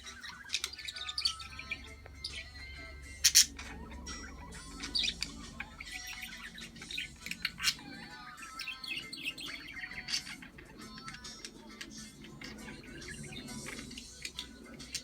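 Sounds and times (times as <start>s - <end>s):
budgerigars chirping: 0.0s - 15.0s
faint music: 0.0s - 15.0s.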